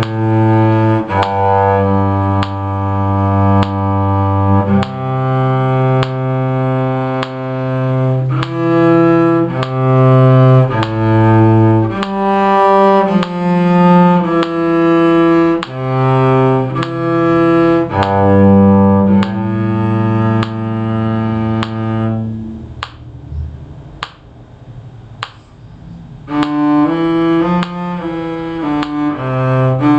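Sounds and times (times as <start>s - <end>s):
cello bowed in long notes: 0.0s - 23.8s, 25.6s - 29.9s.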